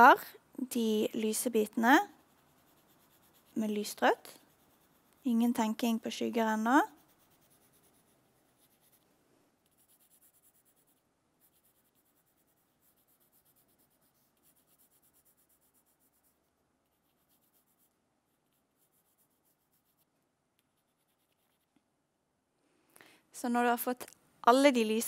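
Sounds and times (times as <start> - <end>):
pencil scratching on paper: 1.1 - 21.7.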